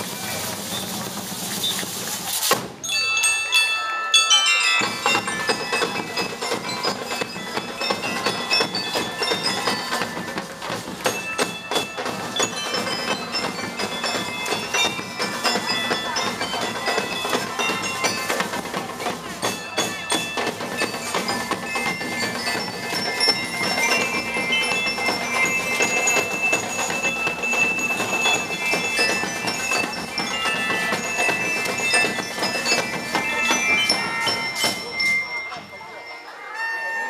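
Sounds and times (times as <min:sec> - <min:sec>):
bell lyre melody: 0:02.8 - 0:37.0
snare and bass drums beating: 0:04.8 - 0:35.6.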